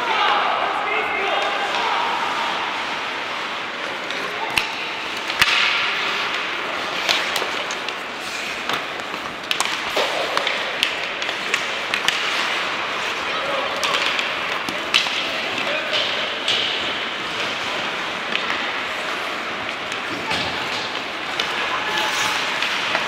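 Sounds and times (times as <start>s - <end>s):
hockey sticks and puck clacking: 0.0s - 23.0s
skates on ice: 0.1s - 23.0s.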